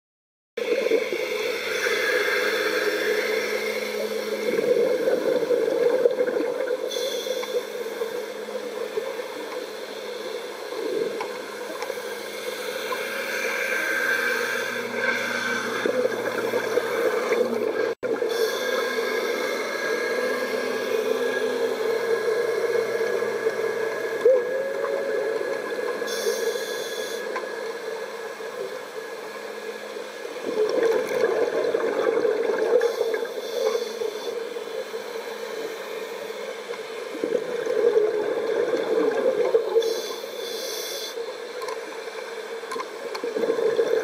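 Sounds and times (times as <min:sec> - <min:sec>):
underwater watery rushing: 0:00.6 - 0:40.6, 0:41.4 - 0:44.0
faint underwater hums: 0:00.6 - 0:44.0.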